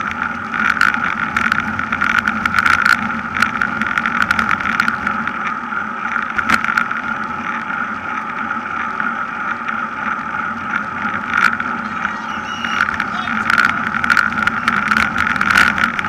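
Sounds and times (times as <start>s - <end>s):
bicycle road noise: 0.0s - 16.0s.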